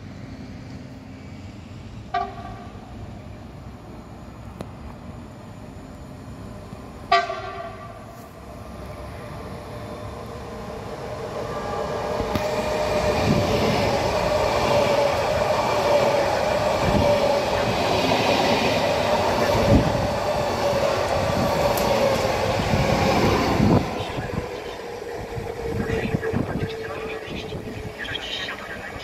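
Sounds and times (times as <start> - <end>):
steady train tone: 0.0 - 29.0.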